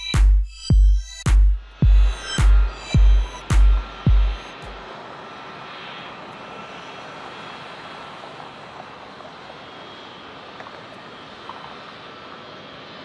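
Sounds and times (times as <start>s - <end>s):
jet engines at taxi power: 1.1s - 13.0s.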